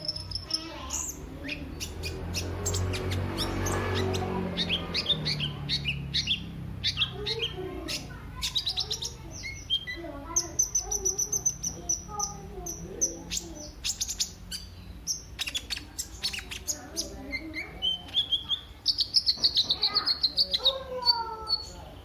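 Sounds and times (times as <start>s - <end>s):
bird singing high chirps: 0.0s - 22.0s.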